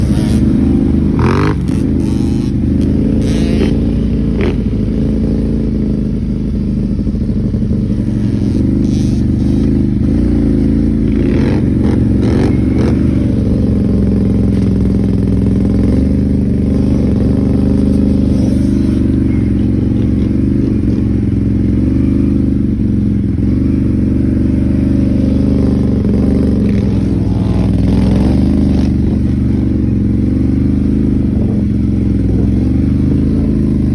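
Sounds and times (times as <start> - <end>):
off-road vehicle engines running: 0.0 - 33.9.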